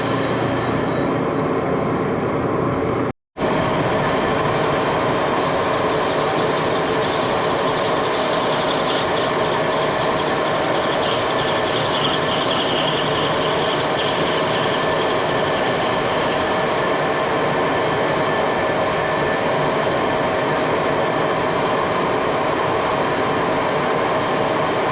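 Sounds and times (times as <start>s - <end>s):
machine droning: 0.0s - 24.9s.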